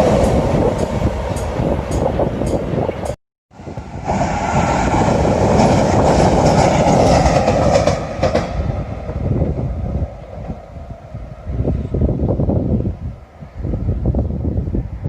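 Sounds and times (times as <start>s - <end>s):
train running on tracks: 0.0s - 15.0s.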